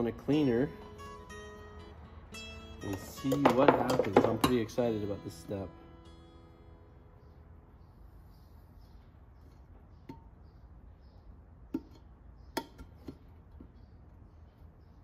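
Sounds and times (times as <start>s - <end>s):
faint steady background noise: 0.0s - 15.0s.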